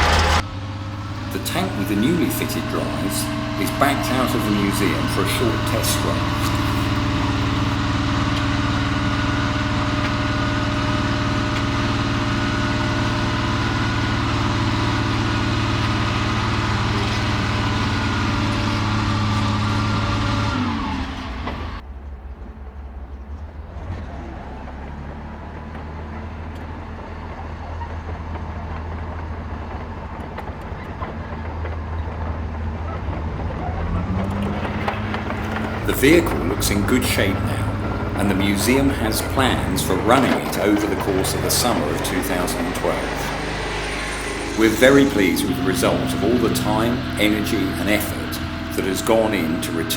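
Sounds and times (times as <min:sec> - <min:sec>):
tank engine running: 0:00.0 - 0:49.9.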